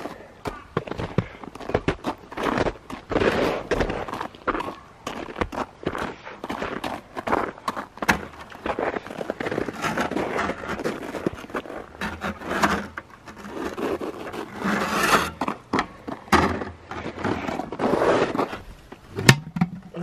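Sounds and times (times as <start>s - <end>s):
footsteps crunching on snow: 0.0s - 16.3s, 16.9s - 19.0s.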